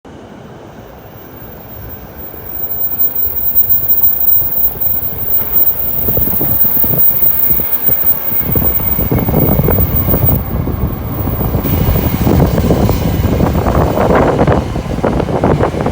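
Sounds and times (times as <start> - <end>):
train rushing past at speed: 0.1 - 15.9
low rough buffeting: 0.6 - 15.9.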